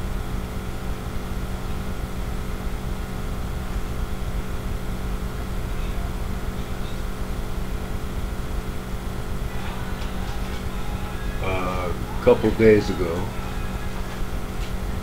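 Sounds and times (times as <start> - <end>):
steady low droning hum: 0.0 - 15.0.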